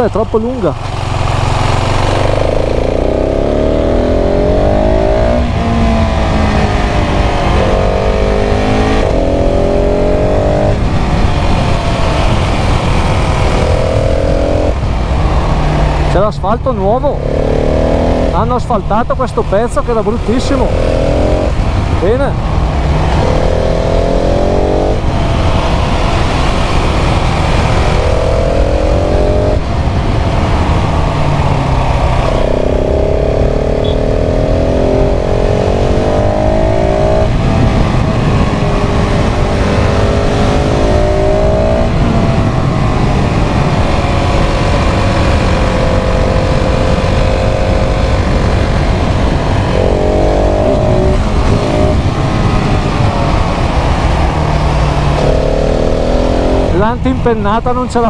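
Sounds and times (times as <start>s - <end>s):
motorcycle engine revving: 0.0s - 58.0s
wind on microphone: 1.2s - 16.1s, 19.9s - 57.9s.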